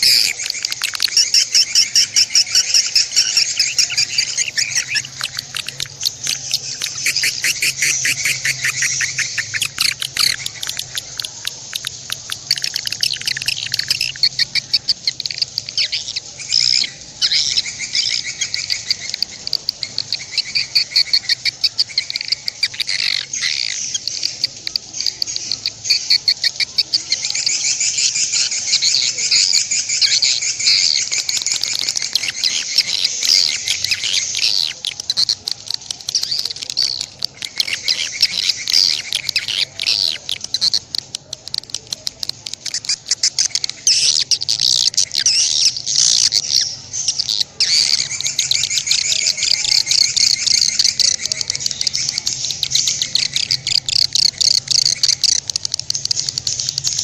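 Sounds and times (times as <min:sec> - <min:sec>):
songbird chattering song: 0:00.0 - 0:57.0.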